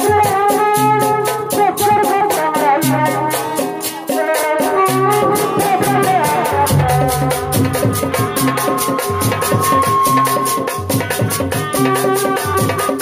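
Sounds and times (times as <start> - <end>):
music with shaker beat: 0.0 - 13.0.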